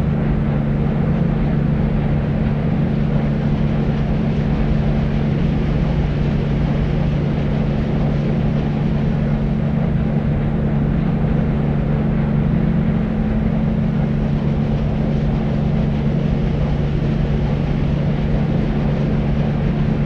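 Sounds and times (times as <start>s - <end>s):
deep white noise: 0.0s - 20.0s.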